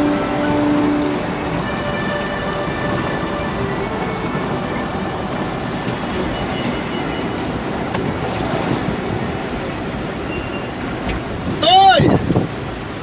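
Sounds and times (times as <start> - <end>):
train rumbling on rails: 0.0 - 13.0
wheels squealing: 0.0 - 13.0.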